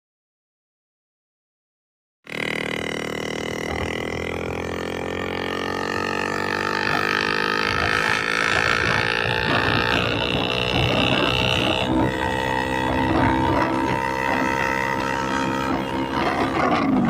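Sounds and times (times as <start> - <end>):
motorcycle exhaust note: 2.3 - 17.0.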